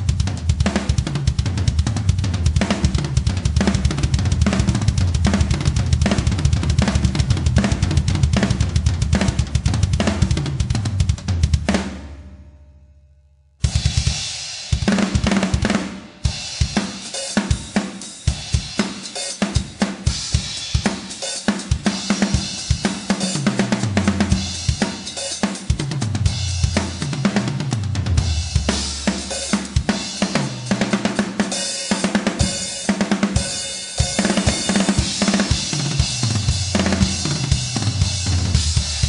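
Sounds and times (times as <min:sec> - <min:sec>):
metal drum kit playing: 0:00.0 - 0:12.4, 0:13.6 - 0:39.0.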